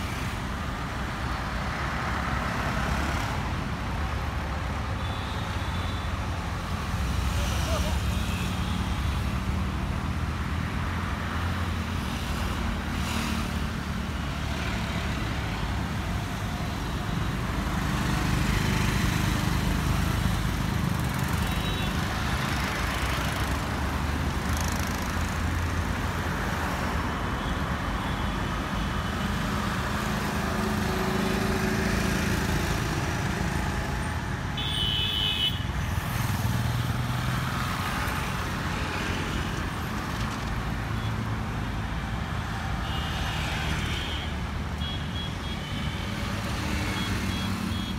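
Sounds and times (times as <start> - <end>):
cars and motorcycles passing: 0.0 - 47.9.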